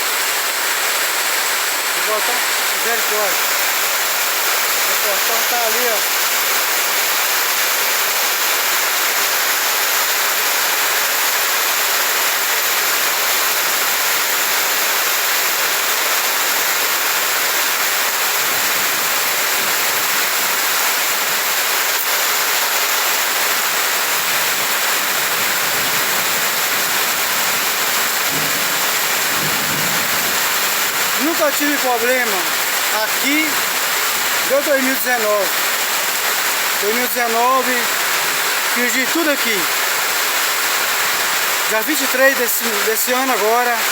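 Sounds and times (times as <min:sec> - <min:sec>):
floodwater running: 0:00.0 - 0:43.9
heavy rain: 0:00.0 - 0:43.9.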